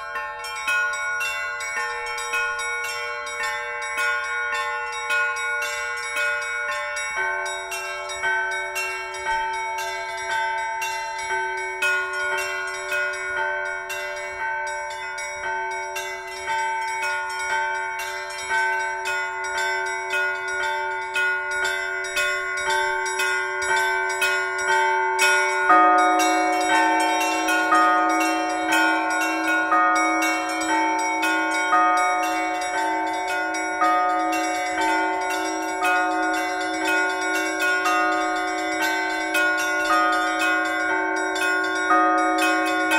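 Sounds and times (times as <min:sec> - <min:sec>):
church bells ringing: 0:00.0 - 0:42.9
deep bell ringing: 0:00.0 - 0:42.9.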